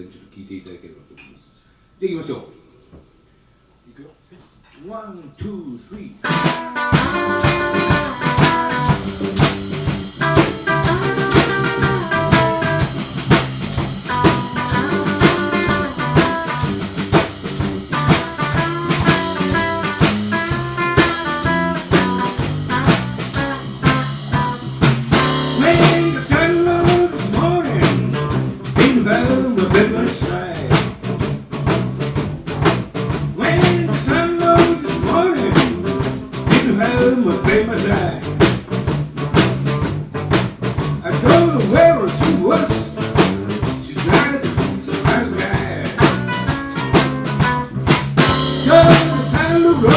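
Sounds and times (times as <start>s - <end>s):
drum kit beat: 6.2s - 49.9s
live blues band playing: 6.2s - 49.9s.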